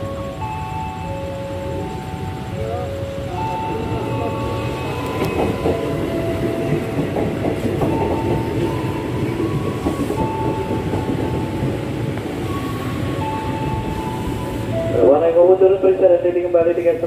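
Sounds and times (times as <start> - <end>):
wheels clacking over rail joints: 0.0 - 15.6
electric train rumbling: 0.0 - 17.0.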